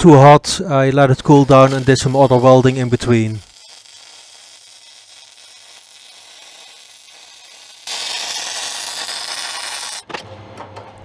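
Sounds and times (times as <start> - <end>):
welding arc hissing: 1.2 - 10.1.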